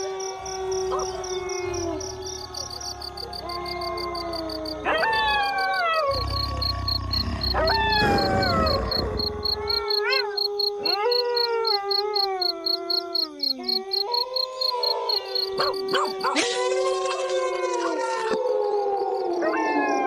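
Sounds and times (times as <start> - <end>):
wolves howling: 0.0 - 20.0.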